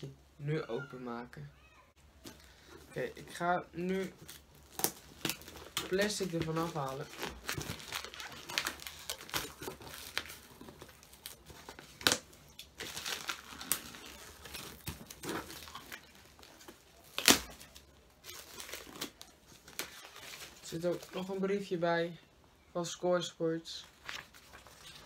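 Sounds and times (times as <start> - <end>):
plastic wrapping crinkling and tearing: 2.2 - 21.4, 23.9 - 25.0.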